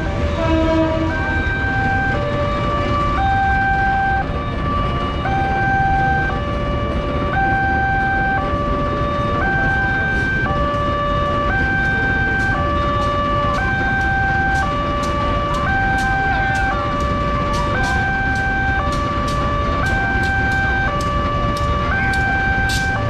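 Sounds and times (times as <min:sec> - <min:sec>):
level crossing two-tone alarm: 0:00.0 - 0:23.0
low rumble of traffic: 0:00.0 - 0:23.0.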